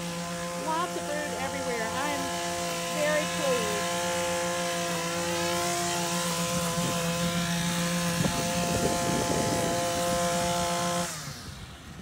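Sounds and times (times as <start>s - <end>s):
lawnmower engine running: 0.0s - 12.0s.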